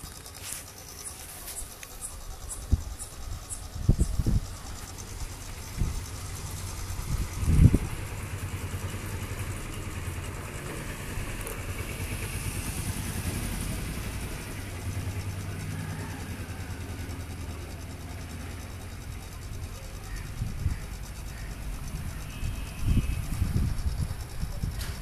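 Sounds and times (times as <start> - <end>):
small engine idling: 0.0 - 25.0.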